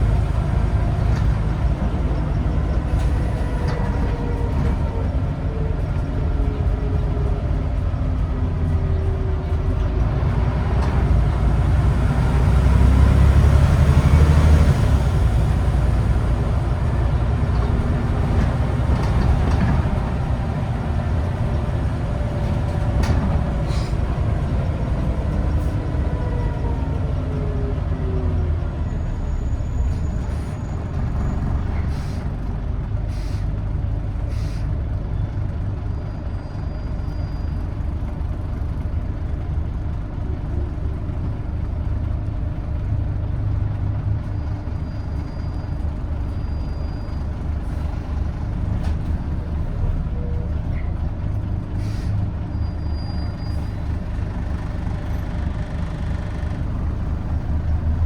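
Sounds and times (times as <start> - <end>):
bus diesel engine droning: 0.0 - 58.0
road noise: 0.0 - 58.0.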